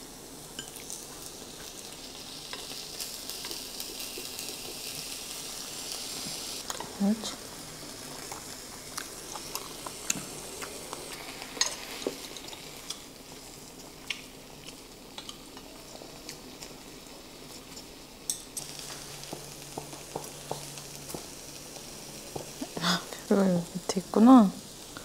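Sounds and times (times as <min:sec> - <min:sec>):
beef sizzling on grill pan: 0:00.0 - 0:25.0.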